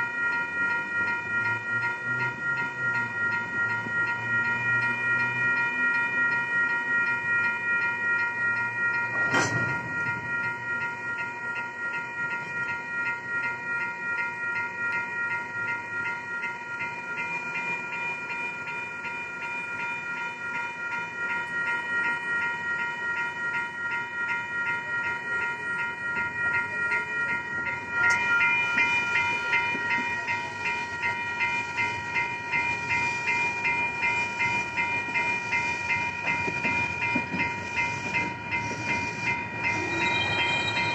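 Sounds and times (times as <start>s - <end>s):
railroad crossing bells ringing: 0.0s - 40.9s.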